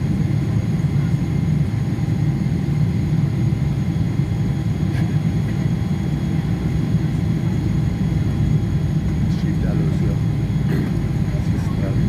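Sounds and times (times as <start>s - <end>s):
aircraft cabin noise: 0.0s - 12.0s
airliner engines rumbling: 0.0s - 12.0s.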